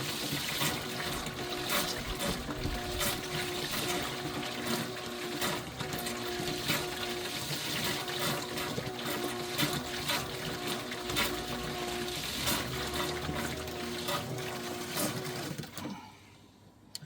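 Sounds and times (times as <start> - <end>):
bilge pump motor hum: 0.0 - 16.1.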